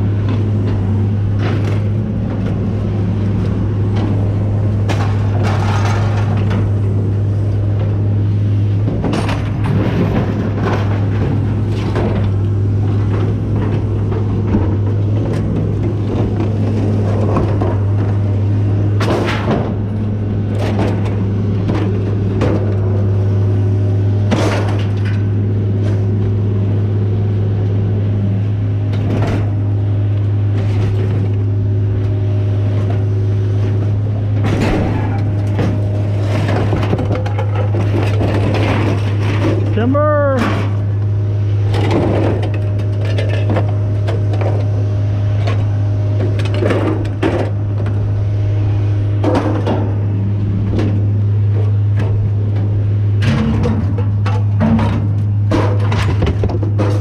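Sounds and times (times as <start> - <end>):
scrap metal clanking and crashing: 0.0 - 23.6, 24.2 - 26.5, 28.9 - 57.0
low engine drone: 0.0 - 57.0.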